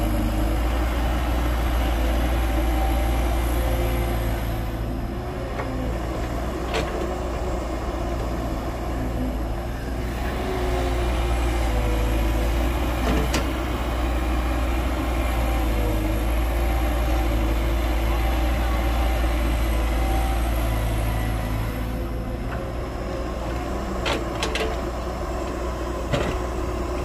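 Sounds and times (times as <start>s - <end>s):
heavy diesel machine running: 0.0s - 27.0s.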